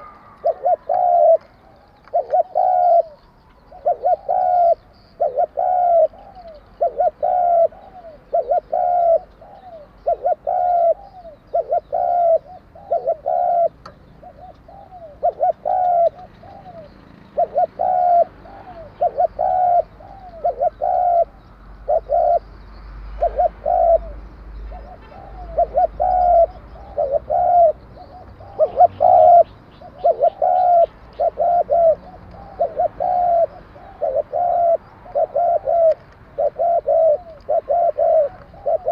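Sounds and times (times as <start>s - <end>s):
dove cooing: 0.0s - 22.5s, 23.2s - 38.9s.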